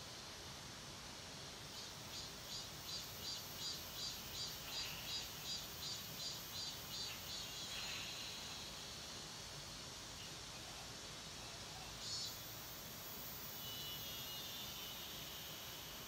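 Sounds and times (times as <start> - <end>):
insect high-pitched pulses: 1.7 - 10.5, 11.9 - 16.0.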